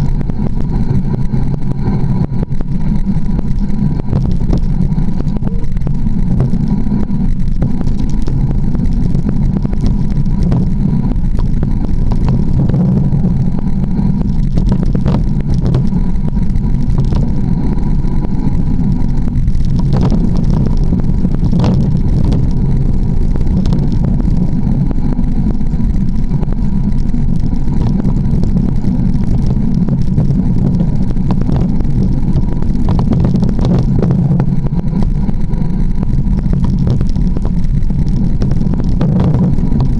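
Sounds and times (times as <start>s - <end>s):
mountain bike rumbling on dirt: 0.0s - 39.9s.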